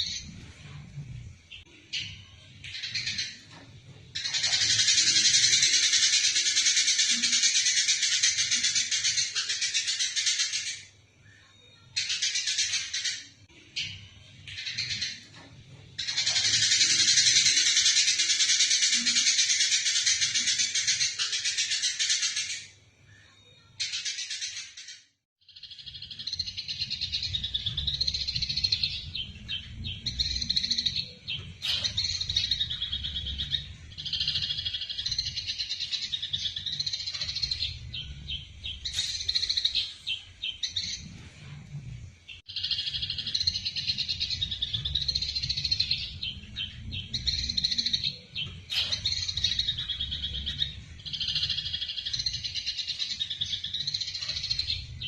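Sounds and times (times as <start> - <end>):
sparrows harsh chatter: 0.0 - 55.0.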